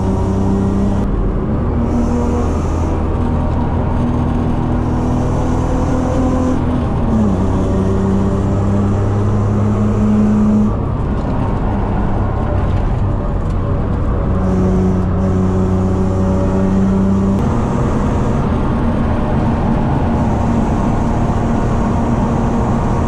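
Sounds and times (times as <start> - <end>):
tyre and road noise: 0.0 - 23.0.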